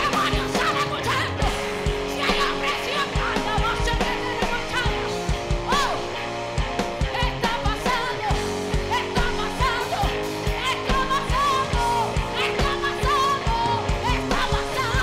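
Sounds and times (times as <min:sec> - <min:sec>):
woman singing into a microphone: 0:00.0 - 0:06.1, 0:07.0 - 0:15.0
drum kit kick-drum beat: 0:00.0 - 0:15.0
electric bass: 0:00.0 - 0:15.0
electric guitar: 0:00.0 - 0:15.0.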